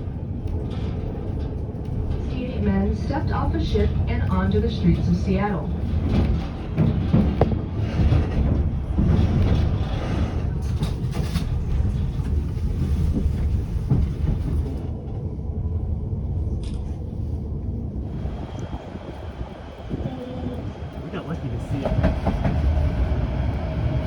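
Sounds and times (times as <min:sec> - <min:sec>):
wheels rumbling on rails: 0:00.0 - 0:24.0.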